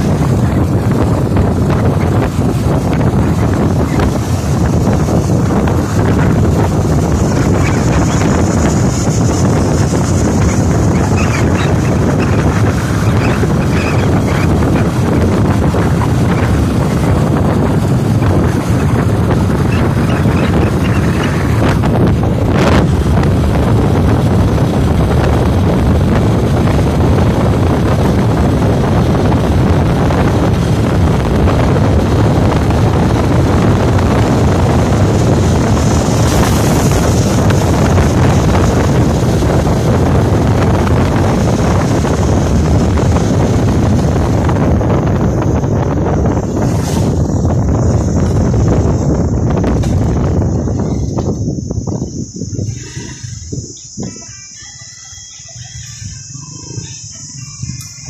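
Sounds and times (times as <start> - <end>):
motorbike engine running: 0.0 - 58.0
wind buffeting microphone: 0.0 - 58.0.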